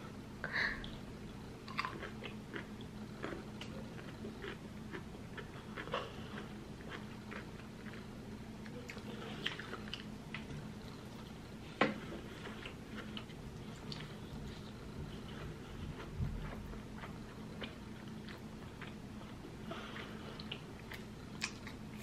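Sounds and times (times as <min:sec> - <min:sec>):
person chewing noodles: 0:01.6 - 0:22.0.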